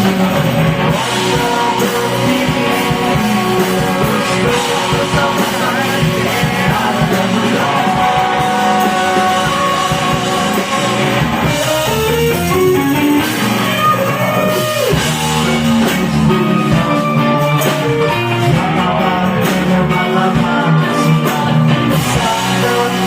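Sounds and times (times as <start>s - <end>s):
drum kit: 0.0s - 23.0s
electric guitar: 0.0s - 23.0s
person singing: 0.0s - 23.0s.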